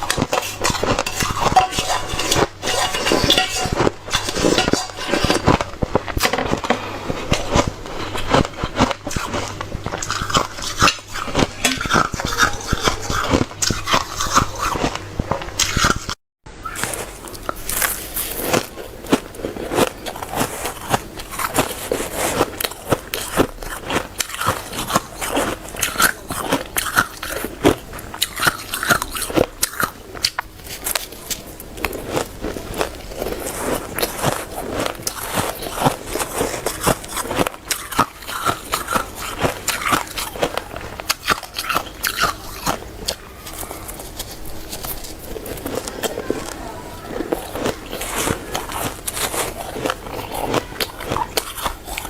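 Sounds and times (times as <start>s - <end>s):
ice crunching between teeth: 3.8s - 52.0s.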